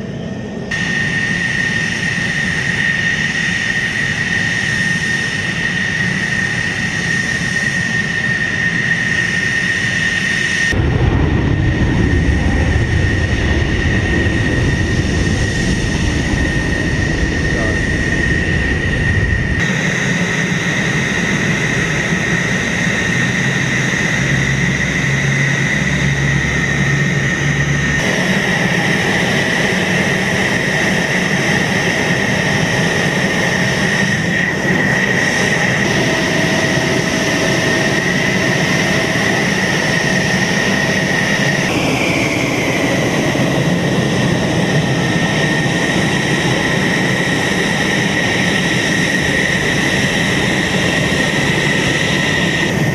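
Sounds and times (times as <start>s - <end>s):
jet engine whine and roar: 0.0s - 52.9s.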